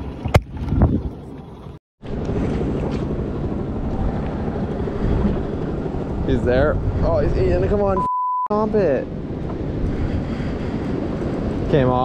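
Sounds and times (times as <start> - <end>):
wind buffeting microphone: 0.0 - 8.0, 8.6 - 12.0.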